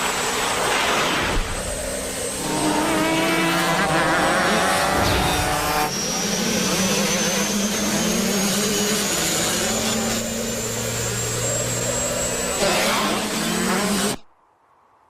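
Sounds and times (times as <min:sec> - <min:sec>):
whooshing motor drone: 0:00.0 - 0:14.2
thin high whine: 0:00.0 - 0:14.3.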